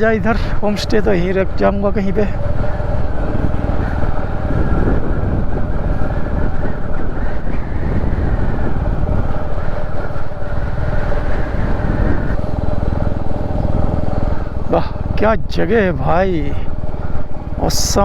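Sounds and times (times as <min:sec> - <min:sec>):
motorcycle engine thumping: 0:00.0 - 0:18.0.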